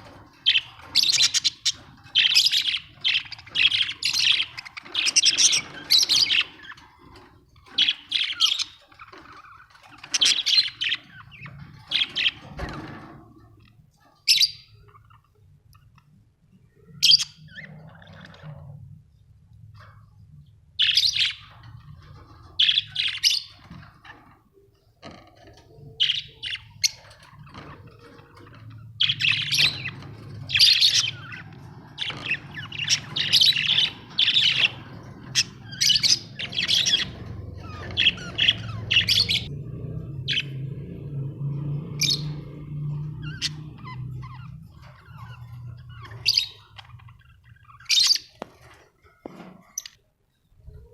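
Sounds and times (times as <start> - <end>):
budgerigars chirping: 0.0 - 16.0, 16.7 - 18.8, 20.8 - 24.3, 25.5 - 50.0.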